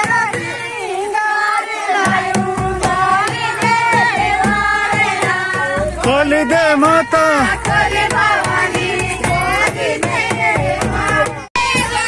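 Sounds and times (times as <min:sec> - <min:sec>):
drum strokes: 0:00.0 - 0:12.0
group singing folk song: 0:00.0 - 0:12.0.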